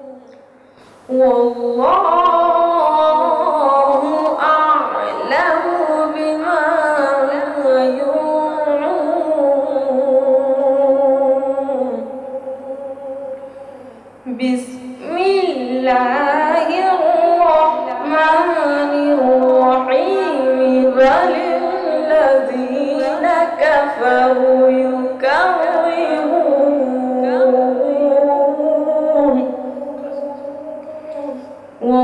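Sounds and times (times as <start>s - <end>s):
boy reciting melodically: 0.0s - 32.0s.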